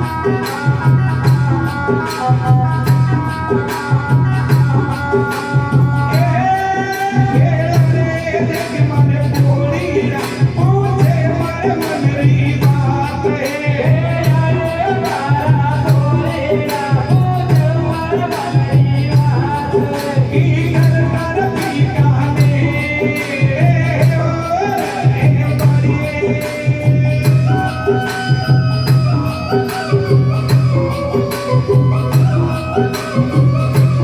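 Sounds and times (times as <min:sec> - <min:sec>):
jingling percussion beat: 0:00.0 - 0:34.0.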